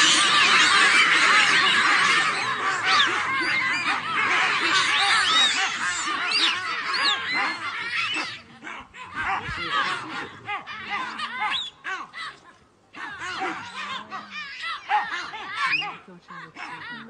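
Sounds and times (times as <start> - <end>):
baboons barking and screeching: 0.0 - 17.0.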